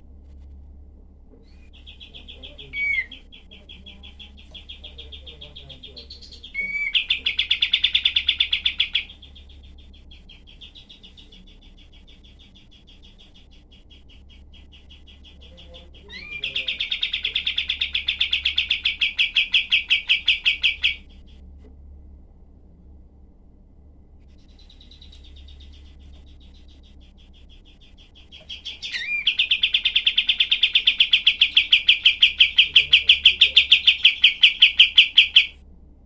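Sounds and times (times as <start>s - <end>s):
songbird trilling: 1.4s - 21.4s, 24.3s - 35.6s.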